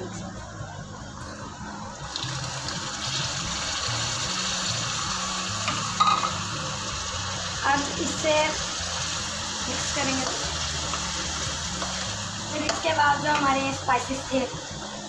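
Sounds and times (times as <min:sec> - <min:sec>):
onions sizzling in oil: 0:02.0 - 0:15.0.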